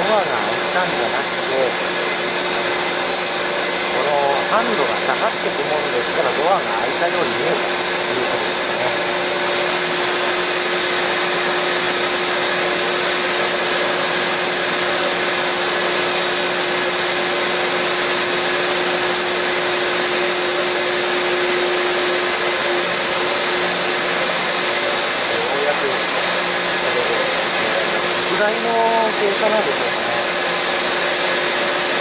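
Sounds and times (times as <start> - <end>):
steady machinery hum: 0.0 - 32.0
ventilation blowers rushing: 0.0 - 32.0.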